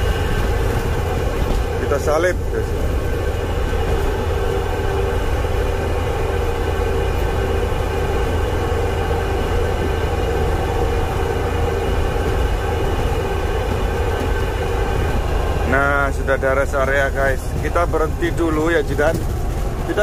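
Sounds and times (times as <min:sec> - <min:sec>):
engine and road drone in cab: 0:00.0 - 0:20.0
multi-tone hum: 0:00.0 - 0:20.0.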